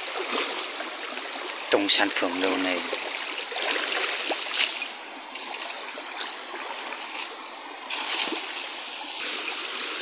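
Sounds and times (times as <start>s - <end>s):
rocky stream flowing: 0.0s - 10.0s
water splash: 0.0s - 10.0s.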